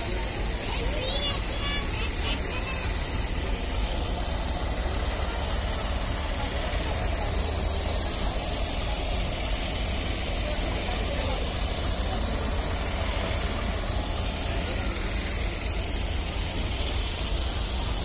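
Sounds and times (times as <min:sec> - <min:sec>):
diesel locomotive idling: 0:00.0 - 0:18.0
voices: 0:00.0 - 0:18.0.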